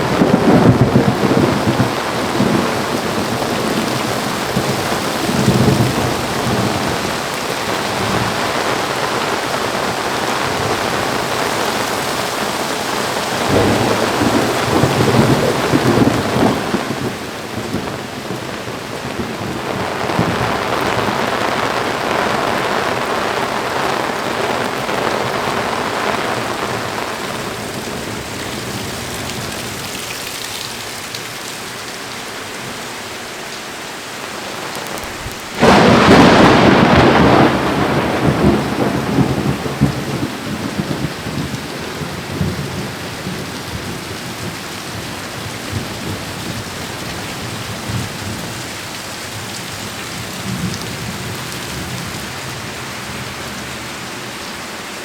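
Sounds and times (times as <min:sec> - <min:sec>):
thunder rumbling: 0:00.0 - 0:30.9, 0:34.5 - 0:53.4
heavy rain: 0:00.0 - 0:55.0.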